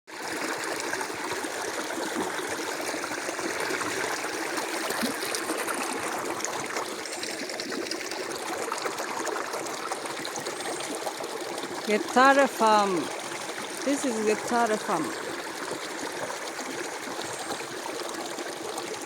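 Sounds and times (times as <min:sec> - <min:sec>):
small river flowing: 0:00.1 - 0:19.0.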